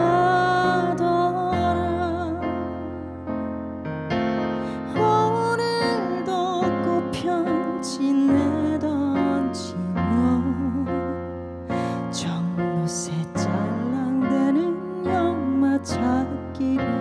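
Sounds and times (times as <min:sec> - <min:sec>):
woman singing ballad: 0:00.0 - 0:02.7, 0:04.7 - 0:17.0
electric piano chords: 0:00.0 - 0:17.0.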